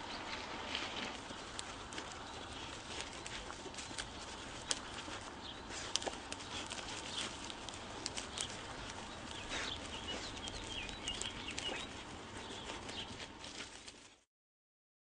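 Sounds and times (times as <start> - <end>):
small birds chirping: 0.0 - 14.2
rustling: 0.0 - 14.3.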